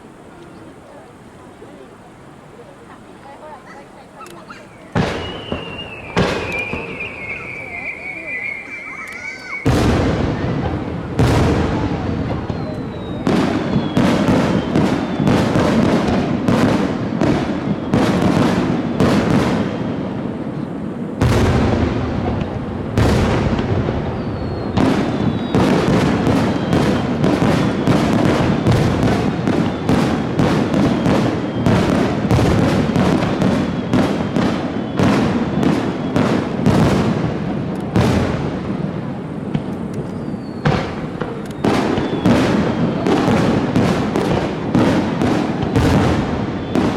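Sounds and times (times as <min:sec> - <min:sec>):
fireworks bursting and crackling: 0:00.0 - 0:46.9
heavy firework boom: 0:04.9 - 0:08.7, 0:09.6 - 0:20.6, 0:21.2 - 0:46.9.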